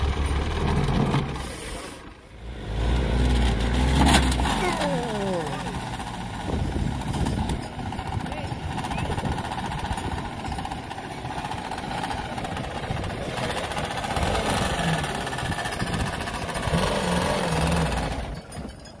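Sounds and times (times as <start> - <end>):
vehicle engine revving under load: 0.0 - 18.4.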